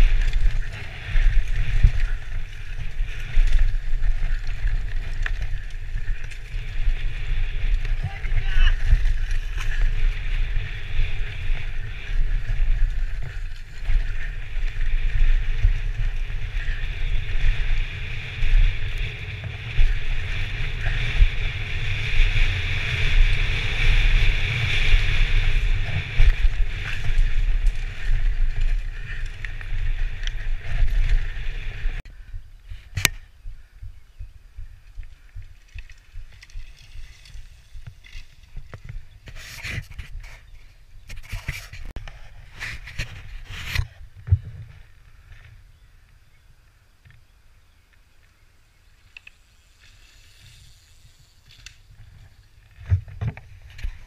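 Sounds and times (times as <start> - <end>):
bike tyres rattling over dirt: 0.0 - 46.4, 47.1 - 54.0
wind buffeting microphone: 0.0 - 46.4.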